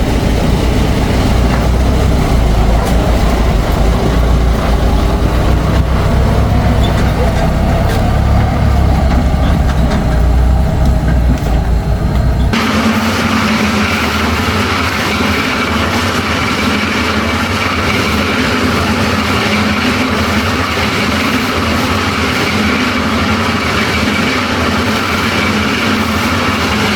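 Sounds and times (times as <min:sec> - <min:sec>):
engine running steadily: 0:00.0 - 0:26.9.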